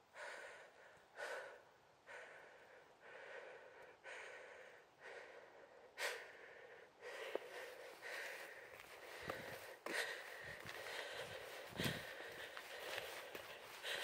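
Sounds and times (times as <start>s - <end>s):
person breathing close to microphone: 0.0s - 14.0s.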